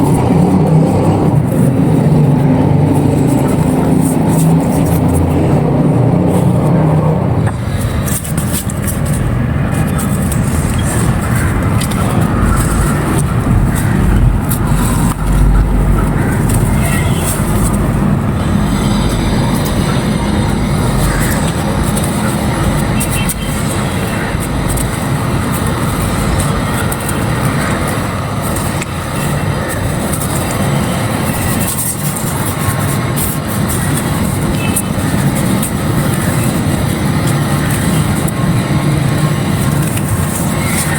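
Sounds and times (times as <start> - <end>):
dry clay crackling: 0.0 - 40.9
heavy low rumble: 0.0 - 40.9.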